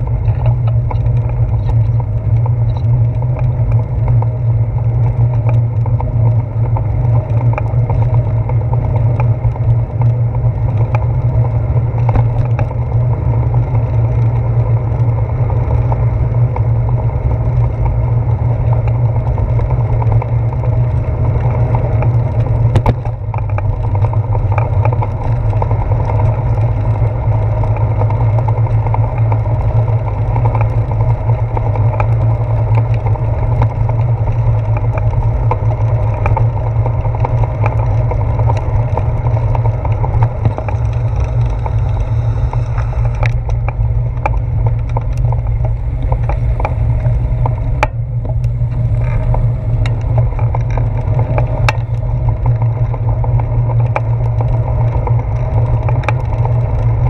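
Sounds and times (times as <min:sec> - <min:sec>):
bicycle road vibration rumble: 0:00.0 - 0:57.0
wind noise: 0:00.0 - 0:57.0.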